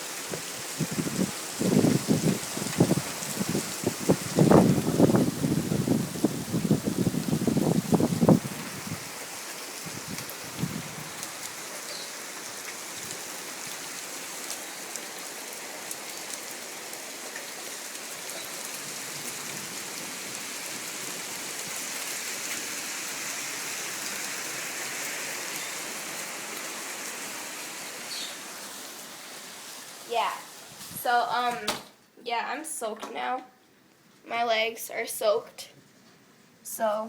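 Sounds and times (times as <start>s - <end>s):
heavy rain pattering: 0.0s - 31.8s.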